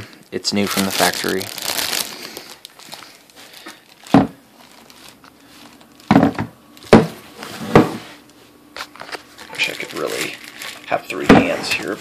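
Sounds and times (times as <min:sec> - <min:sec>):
plastic packaging crinkling: 0:00.0 - 0:06.9, 0:08.8 - 0:12.0.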